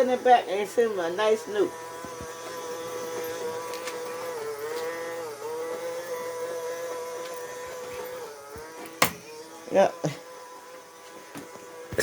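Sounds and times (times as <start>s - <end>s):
robot vacuum motor whine: 0.0s - 12.0s.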